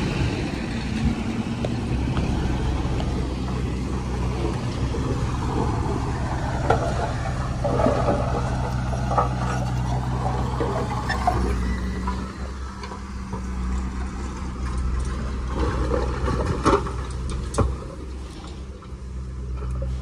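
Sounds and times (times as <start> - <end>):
bulldozer diesel engine running: 0.0 - 20.0
metal clanks and rattles: 3.0 - 20.0.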